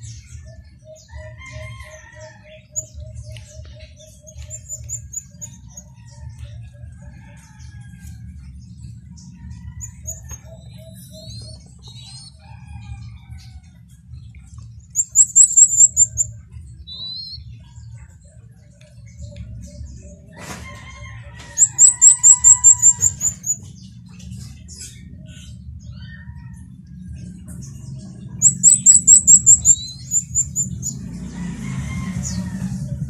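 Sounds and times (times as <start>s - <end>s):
low steady hum: 0.0s - 31.0s
cage birds chirping: 0.0s - 33.0s.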